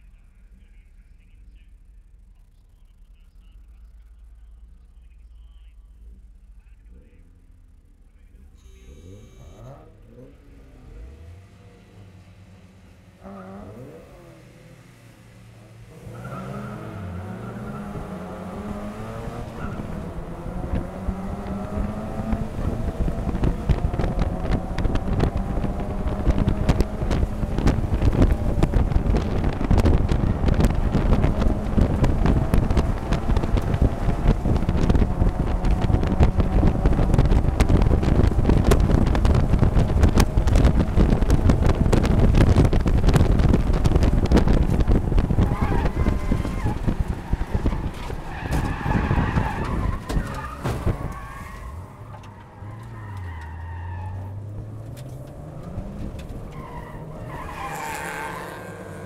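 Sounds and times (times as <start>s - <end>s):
race car engine accelerating: 1.5s - 59.0s
wind and road noise: 8.8s - 59.0s.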